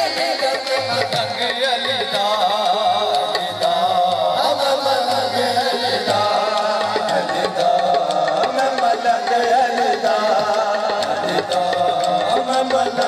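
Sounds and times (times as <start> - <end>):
hand drum beat: 0.0 - 13.0.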